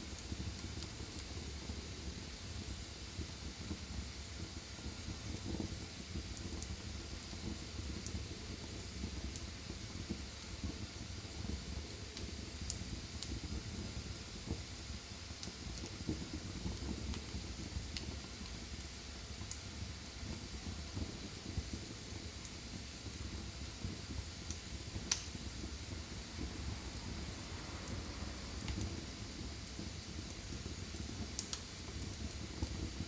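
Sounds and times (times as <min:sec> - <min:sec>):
fire crackling and popping: 0:00.0 - 0:33.0
wood fire burning: 0:00.0 - 0:33.0.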